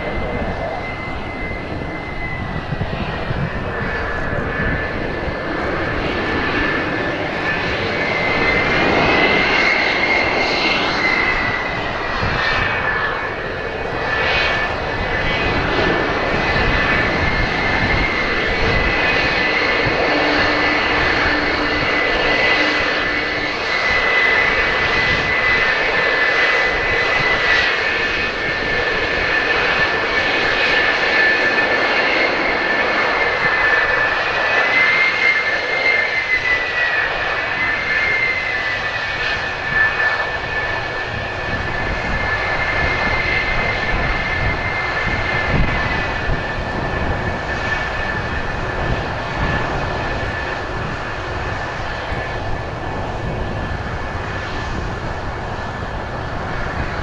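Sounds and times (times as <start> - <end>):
jet engines at taxi power: 0.0 - 57.0.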